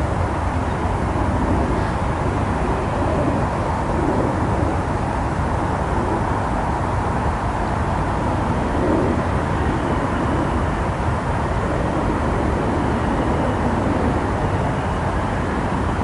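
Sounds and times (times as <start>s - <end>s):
continuous traffic noise: 0.0s - 16.0s.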